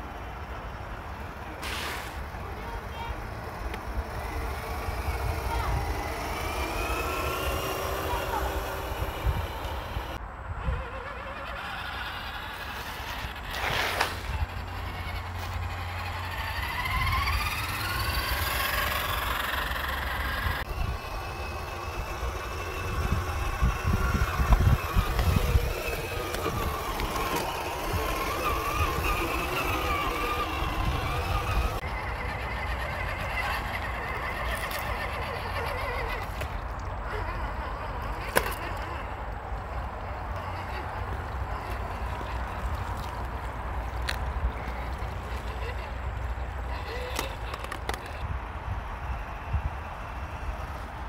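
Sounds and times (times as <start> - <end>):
electric motors and gearboxes whining: 0.0 - 51.0.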